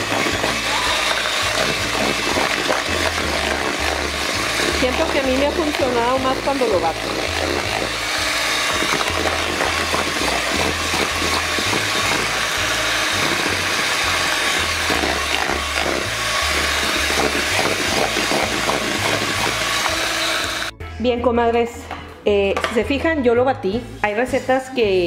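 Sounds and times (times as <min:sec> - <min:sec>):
electric hand mixer whipping batter: 0:00.0 - 0:20.7
background music: 0:00.0 - 0:25.0.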